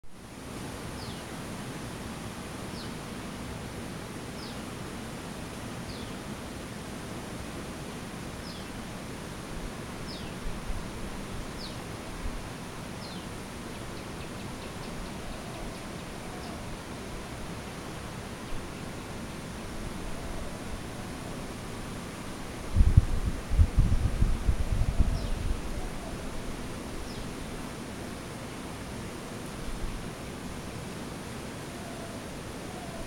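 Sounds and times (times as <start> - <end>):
outdoor hiss: 0.2 - 33.0.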